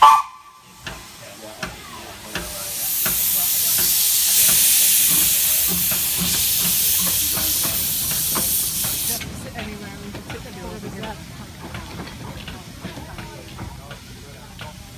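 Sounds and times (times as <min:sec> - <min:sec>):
steam locomotive hissing steam: 0:00.0 - 0:14.9.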